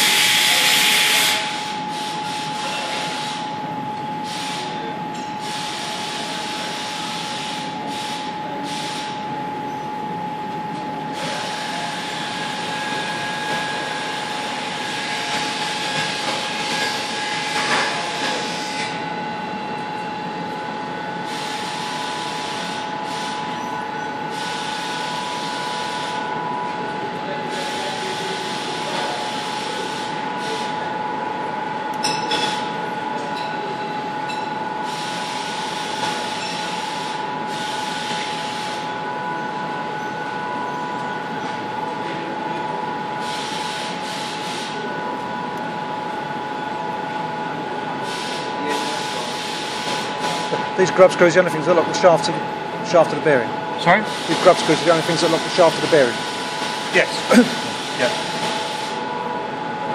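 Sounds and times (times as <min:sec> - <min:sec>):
industrial machinery droning: 0:00.0 - 0:59.9
machine whine: 0:00.0 - 0:59.9.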